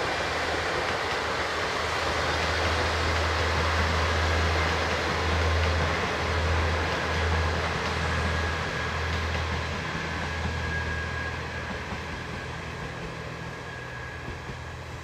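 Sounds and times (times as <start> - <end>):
diesel train engine drone: 0.0 - 15.0
train running noise: 0.0 - 15.0.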